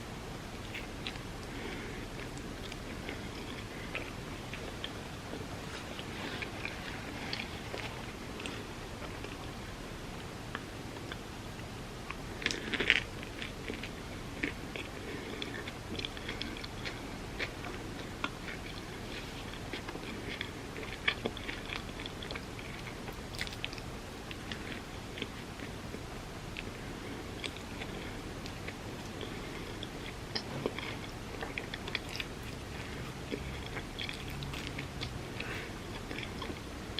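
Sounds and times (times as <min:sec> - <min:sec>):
person chewing crunchy food: 0:00.6 - 0:09.9, 0:12.0 - 0:36.9.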